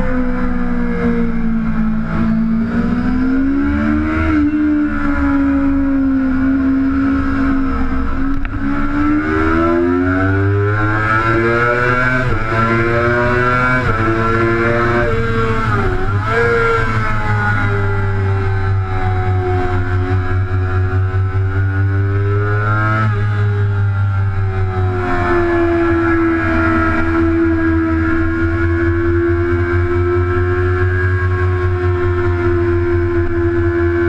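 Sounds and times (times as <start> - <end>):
motorcycle engine racing: 0.0 - 34.0.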